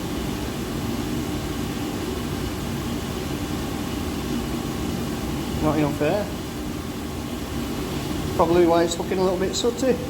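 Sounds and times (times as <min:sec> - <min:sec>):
gas boiler burner humming: 0:00.0 - 0:10.0.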